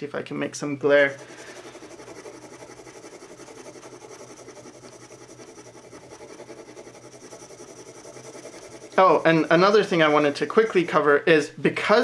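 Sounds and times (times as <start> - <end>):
pencil scratching on paper: 0.8 - 10.8.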